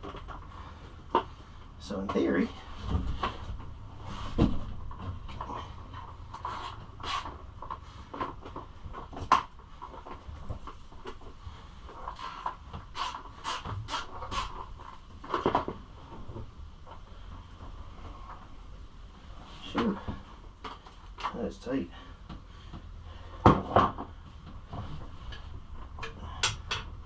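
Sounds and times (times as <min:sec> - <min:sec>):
clicks knocks and scrapes of parts: 0:00.0 - 0:01.4, 0:02.0 - 0:17.0, 0:19.6 - 0:21.4, 0:22.2 - 0:27.0.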